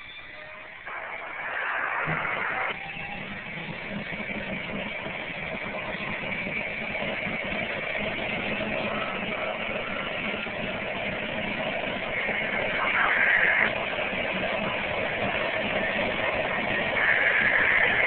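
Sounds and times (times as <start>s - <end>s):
helicopter rotor turning: 0.0s - 18.0s
helicopter turbine whine: 0.0s - 18.0s.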